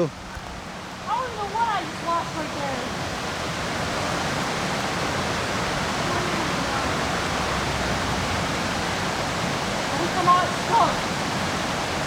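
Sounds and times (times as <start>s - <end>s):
river water rushing over rapids: 0.0s - 12.0s.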